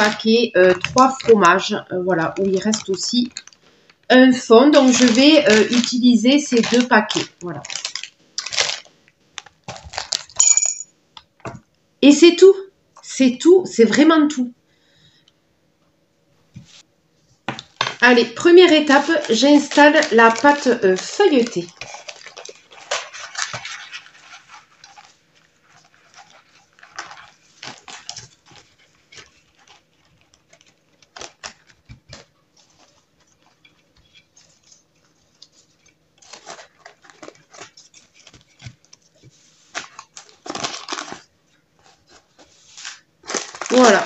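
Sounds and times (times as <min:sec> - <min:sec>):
baking paper crinkling: 0:00.0 - 0:10.4, 0:17.5 - 0:44.0.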